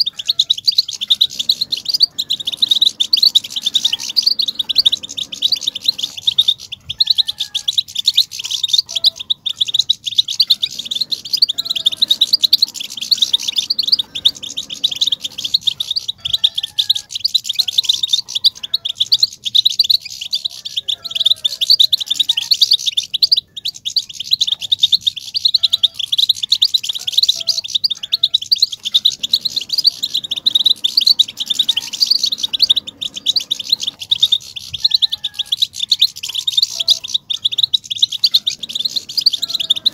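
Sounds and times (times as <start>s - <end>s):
goldfinch twittering chirps: 0.0s - 39.9s.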